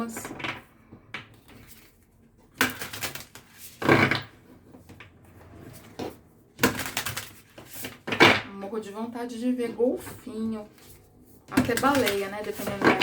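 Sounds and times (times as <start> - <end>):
objects handled on a table: 0.0 - 8.4, 10.0 - 13.0.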